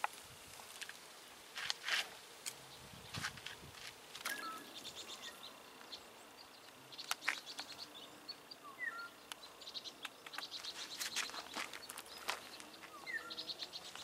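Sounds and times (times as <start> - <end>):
small birds chirping: 0.8 - 14.0.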